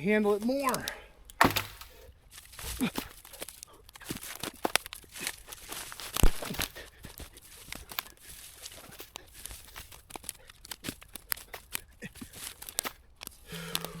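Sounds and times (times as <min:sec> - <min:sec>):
twigs crackling and snapping: 0:00.0 - 0:14.0
branches being dragged: 0:00.2 - 0:14.0.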